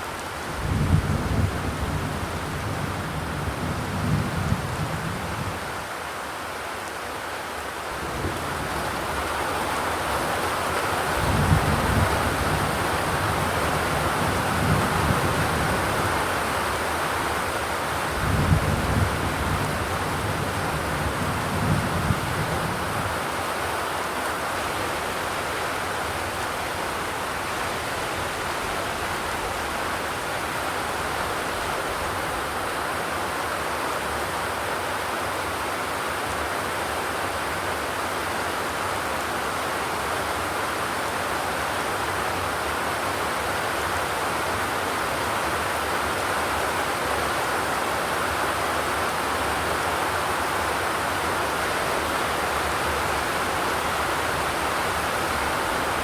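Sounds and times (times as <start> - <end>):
rain on a metal roof: 0.0 - 56.0.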